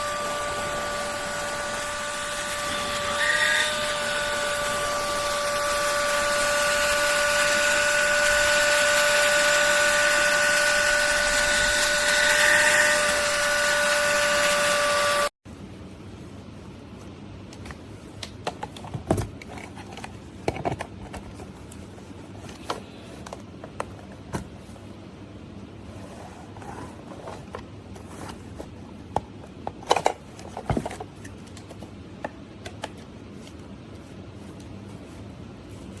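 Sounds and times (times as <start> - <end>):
faint background hum: 0.0 - 36.0.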